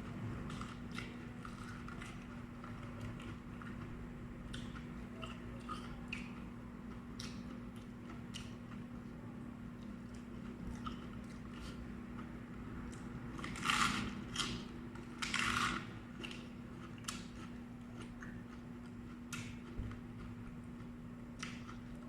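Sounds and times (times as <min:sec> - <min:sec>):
chewing crunchy vegetables: 0:00.1 - 0:22.0.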